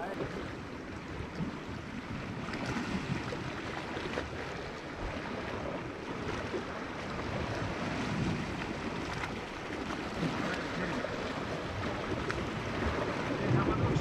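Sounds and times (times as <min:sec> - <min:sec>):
water lapping against rocks: 0:00.0 - 0:14.0
wind: 0:00.0 - 0:14.0.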